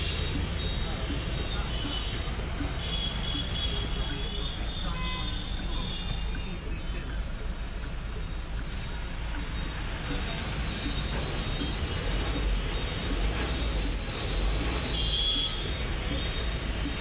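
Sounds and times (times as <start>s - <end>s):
vehicle rumble inside car: 0.0s - 17.0s.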